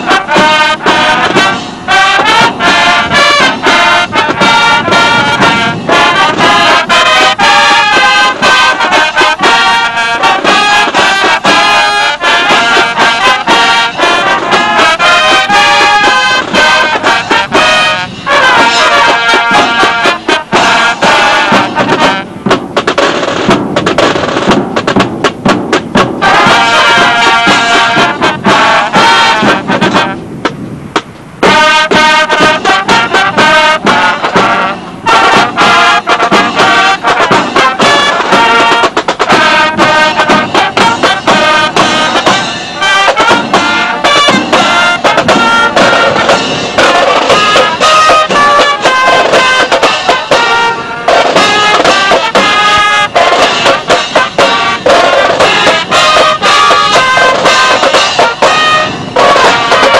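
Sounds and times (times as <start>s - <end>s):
brass instruments playing tune: 0.0s - 30.5s, 31.4s - 59.9s
marching drums: 0.0s - 59.9s.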